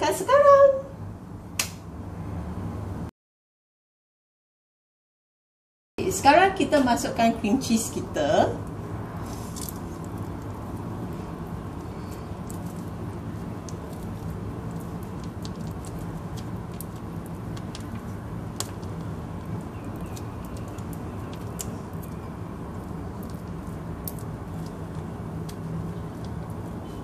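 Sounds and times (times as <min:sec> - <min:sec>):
low background hum: 0:00.0 - 0:03.1, 0:06.0 - 0:27.0.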